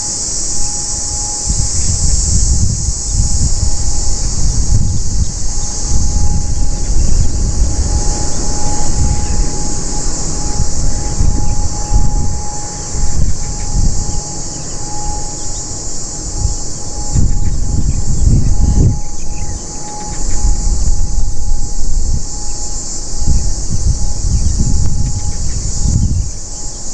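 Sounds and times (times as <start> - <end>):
high-pitched insect chorus: 0.0 - 26.9
thin whining tone: 0.0 - 26.9
wind buffeting microphone: 0.0 - 26.9.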